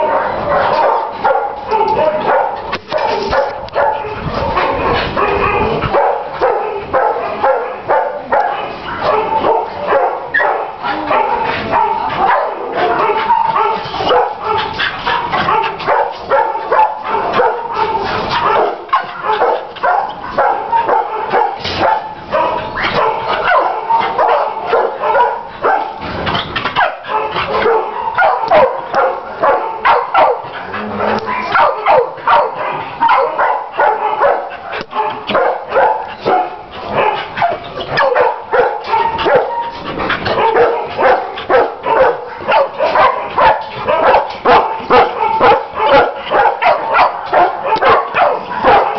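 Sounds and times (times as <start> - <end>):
dogs barking and yipping: 0.0 - 48.9.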